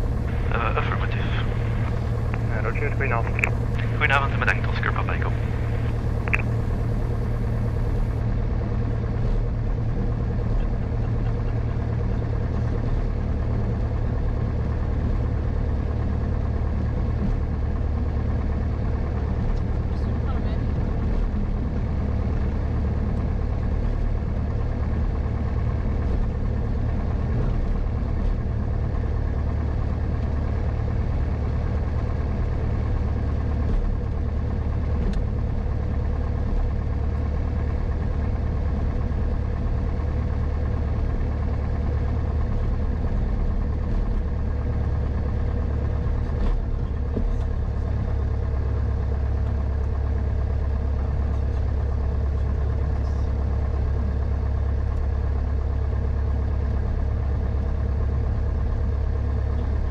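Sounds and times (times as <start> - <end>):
aircraft piston engine drone: 0.0 - 59.9.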